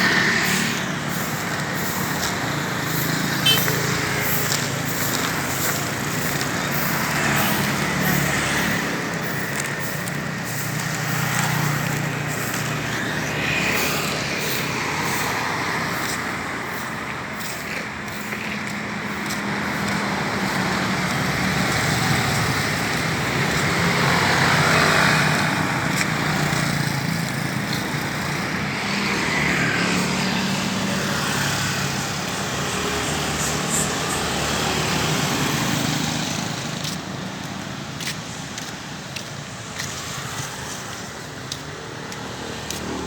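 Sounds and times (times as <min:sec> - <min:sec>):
passing road traffic: 0:00.0 - 0:43.0
vehicle engines running: 0:00.0 - 0:43.0.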